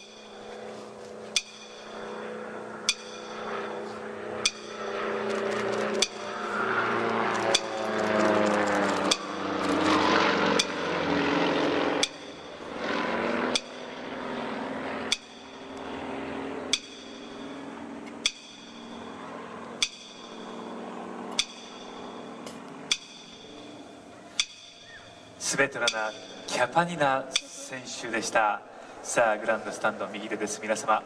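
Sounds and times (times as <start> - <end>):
propeller plane passing: 0.0 - 31.0.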